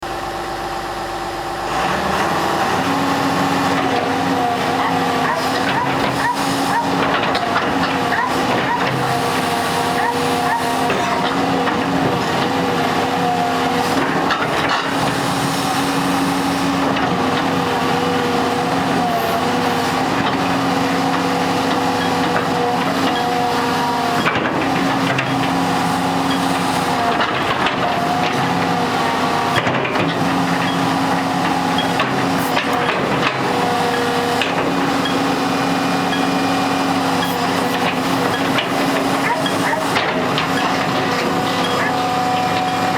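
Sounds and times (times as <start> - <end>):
excavator engine droning: 0.0 - 42.9.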